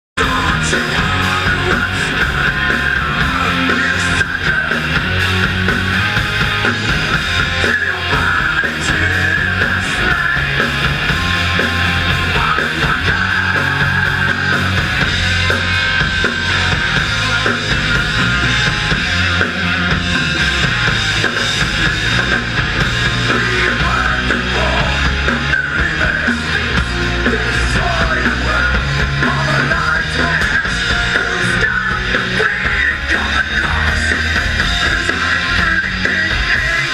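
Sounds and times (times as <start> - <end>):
live rock band playing: 0.2 - 36.9.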